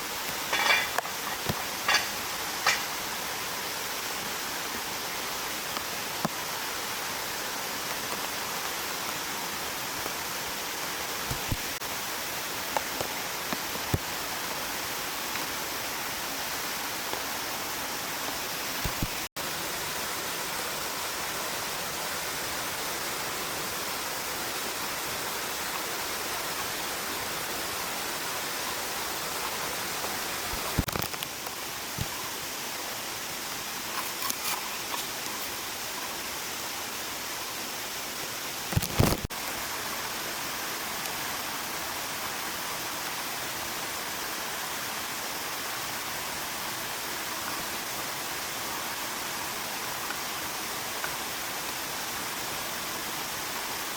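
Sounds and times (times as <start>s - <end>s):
stream rushing: 0.0s - 53.9s.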